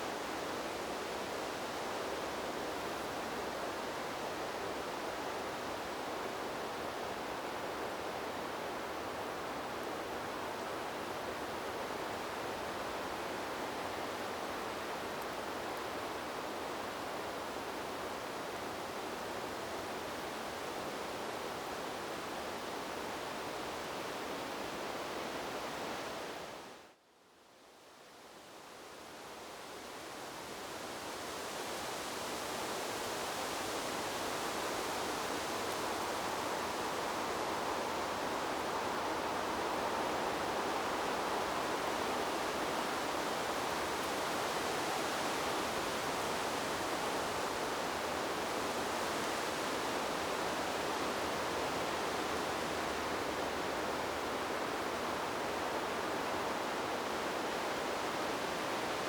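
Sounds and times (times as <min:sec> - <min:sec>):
wind rushing through trees: 0:00.0 - 0:59.0.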